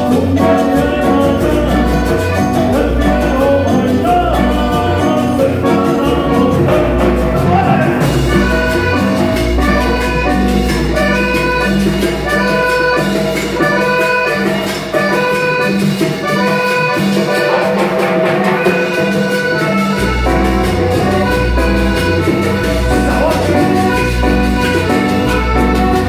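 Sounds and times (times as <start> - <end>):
driving bass: 0.0 - 17.3, 17.9 - 26.0
accordion: 0.0 - 26.0.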